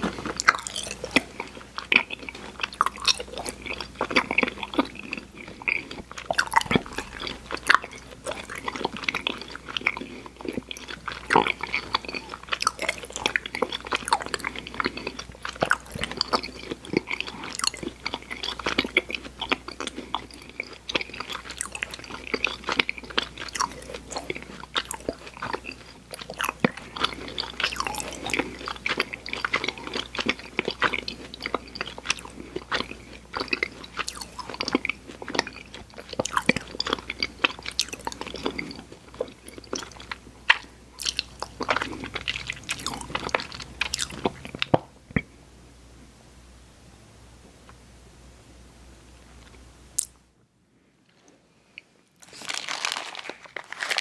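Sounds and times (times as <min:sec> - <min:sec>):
mouth chewing sticky candy: 0:00.0 - 0:44.8, 0:52.2 - 0:54.0.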